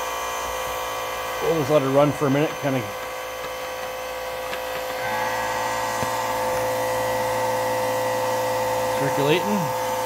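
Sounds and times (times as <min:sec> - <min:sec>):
electric fuel pump whine: 0:00.0 - 0:10.0.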